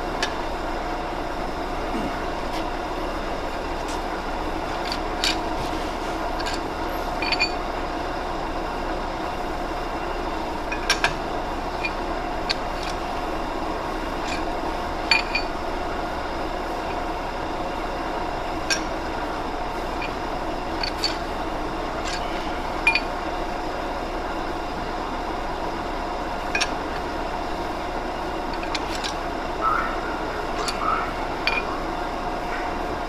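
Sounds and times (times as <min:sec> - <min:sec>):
lathe machine hum: 0:00.0 - 0:33.0.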